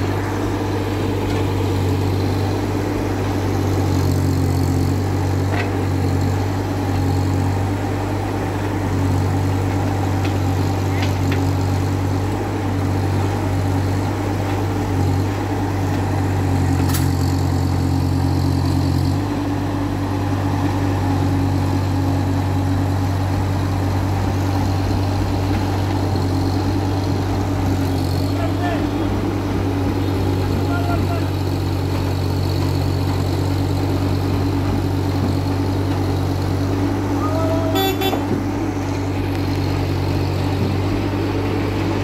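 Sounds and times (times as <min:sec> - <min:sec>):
diesel excavator engine running: 0:00.0 - 0:42.0.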